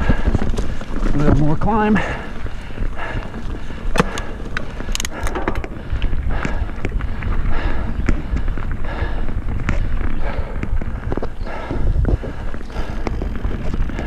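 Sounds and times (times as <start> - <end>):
bike rattling over trail: 0.0 - 14.0
bike tyres rumbling on dirt: 0.0 - 14.0.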